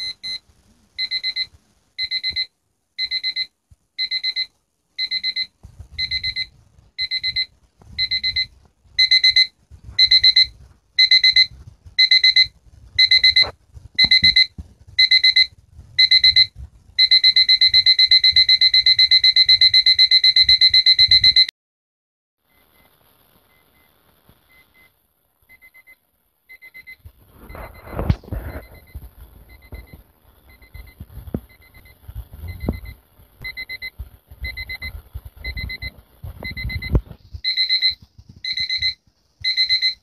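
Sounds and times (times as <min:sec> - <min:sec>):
alarm clock beeping: 0:00.0 - 0:00.4, 0:01.0 - 0:21.5, 0:25.5 - 0:27.9, 0:28.5 - 0:40.0.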